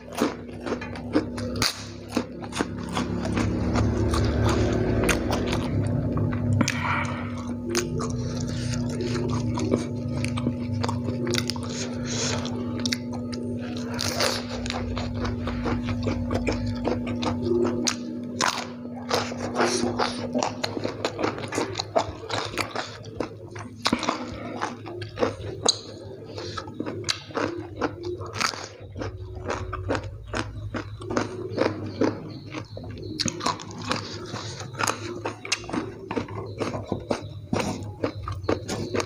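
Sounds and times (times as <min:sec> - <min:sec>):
person crunching raw vegetables: 0:00.0 - 0:39.0.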